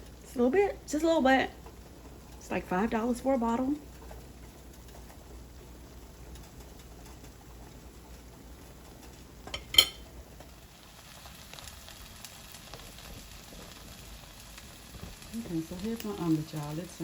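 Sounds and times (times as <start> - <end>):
egg sizzling in a pan: 0.0 - 17.0.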